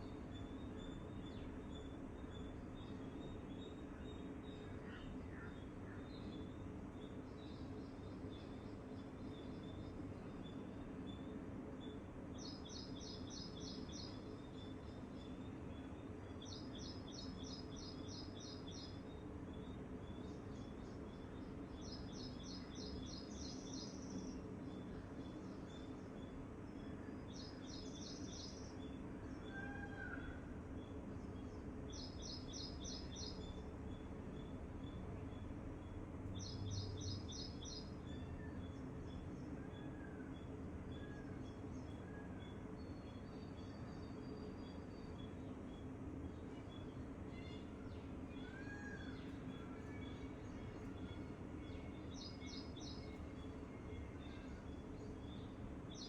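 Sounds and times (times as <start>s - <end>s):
songbird high chirps: 0.0s - 56.0s.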